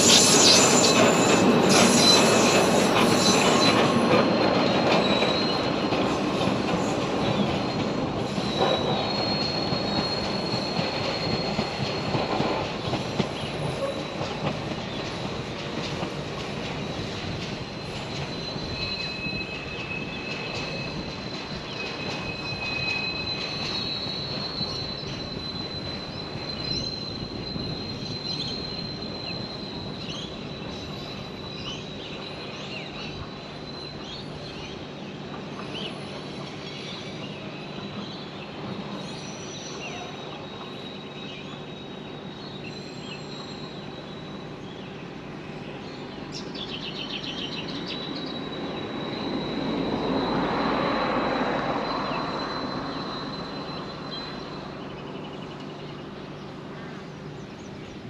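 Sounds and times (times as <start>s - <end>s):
high wheel squeal: 0.0s - 45.3s, 47.0s - 56.3s
train rumbling along track: 0.0s - 58.0s.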